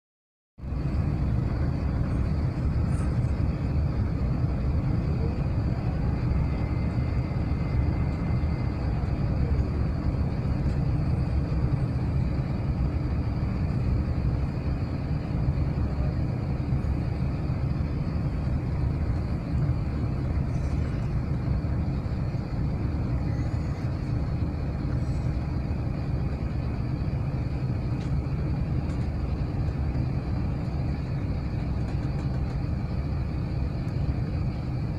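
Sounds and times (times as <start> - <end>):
airliner cabin rumble: 0.6 - 34.9.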